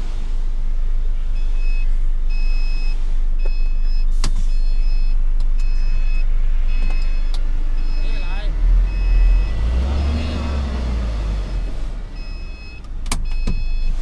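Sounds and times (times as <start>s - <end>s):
truck diesel engine running: 0.0s - 14.0s
reversing alarm beeping: 1.3s - 14.0s.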